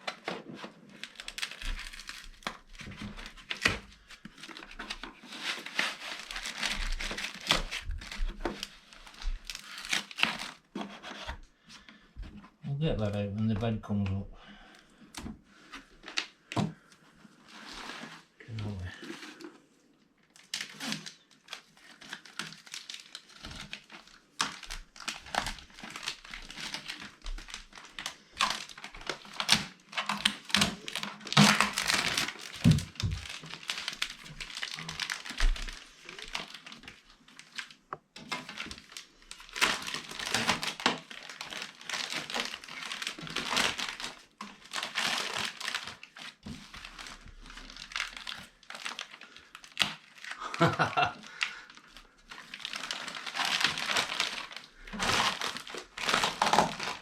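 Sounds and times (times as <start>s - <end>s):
packaging crinkling and rustling: 0.0s - 12.6s, 15.0s - 57.0s.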